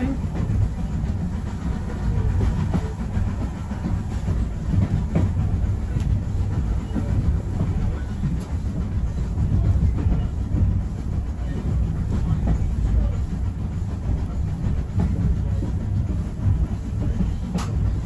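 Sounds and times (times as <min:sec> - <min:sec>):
railway carriage rumbling: 0:00.0 - 0:18.0.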